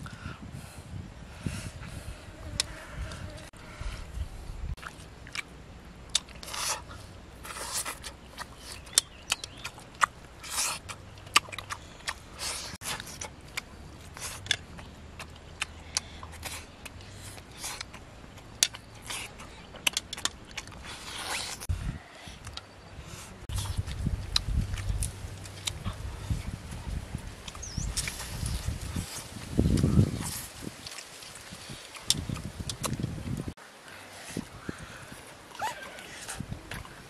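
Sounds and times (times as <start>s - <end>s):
chewing and mouth noises: 4.7s - 21.7s, 22.4s - 33.5s, 34.3s - 37.0s.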